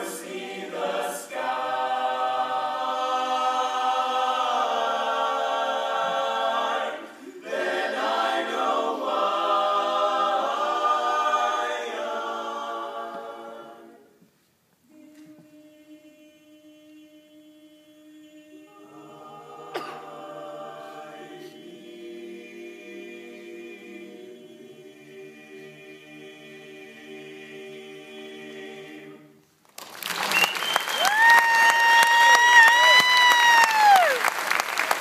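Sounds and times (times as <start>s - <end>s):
male a cappella group singing: 0.0s - 14.1s, 14.9s - 29.4s.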